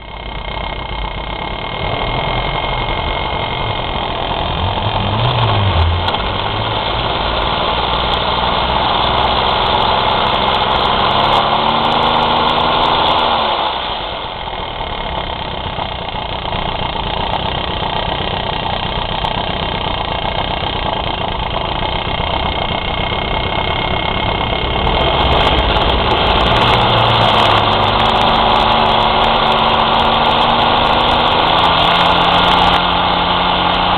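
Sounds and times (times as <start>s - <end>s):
small two-stroke engine running: 0.0s - 33.9s.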